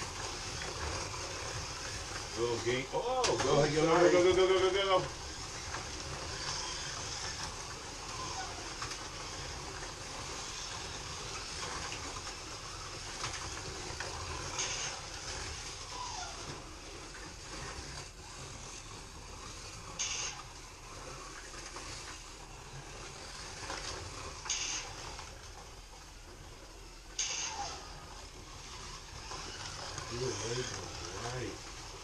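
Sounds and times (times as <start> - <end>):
motor whines: 0.0 - 32.0
slot car motors whirring: 0.0 - 32.0.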